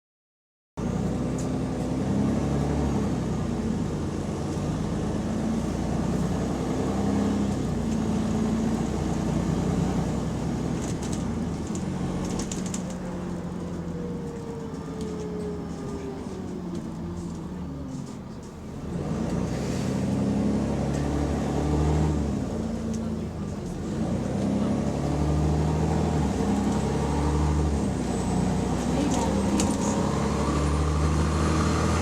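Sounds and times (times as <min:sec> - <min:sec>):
bus engine running: 0:00.8 - 0:32.0.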